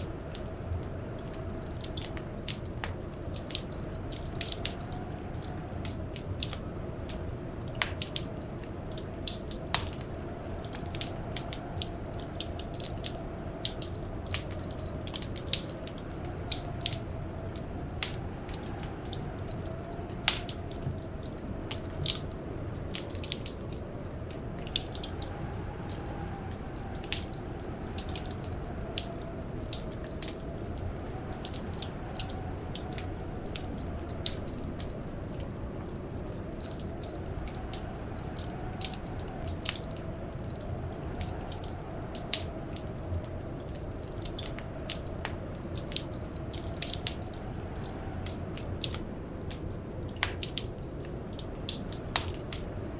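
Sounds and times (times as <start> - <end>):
faint howling wind: 0.0 - 52.9
wood fire crackling and popping: 0.0 - 52.9.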